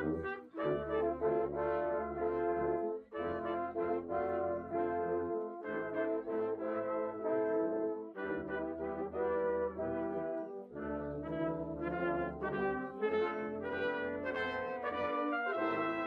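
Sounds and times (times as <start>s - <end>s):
brass band playing chords: 0.0s - 16.0s.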